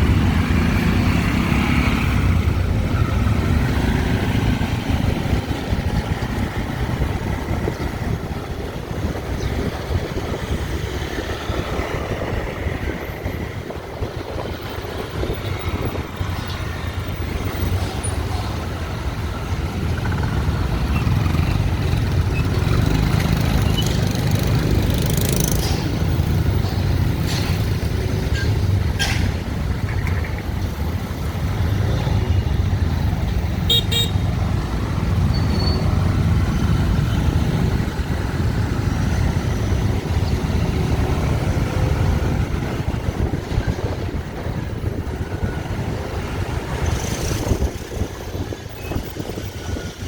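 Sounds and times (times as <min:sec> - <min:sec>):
motorbike and car engines: 0:00.0 - 0:50.0.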